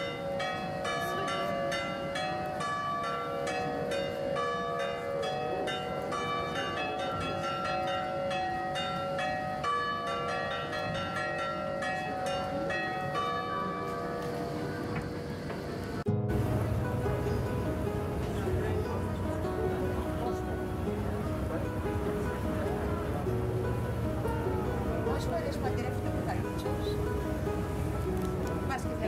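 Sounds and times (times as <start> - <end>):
church bells pealing: 0.0 - 29.0.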